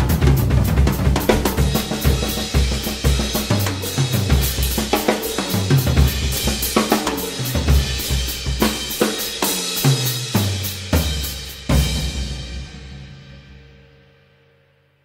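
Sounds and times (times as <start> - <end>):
drum solo on toms and bass drum: 0.0 - 13.3.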